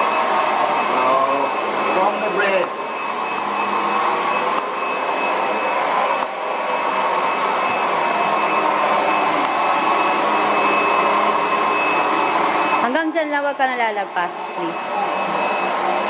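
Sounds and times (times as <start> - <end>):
vacuum cleaner whirring: 0.0 - 16.0.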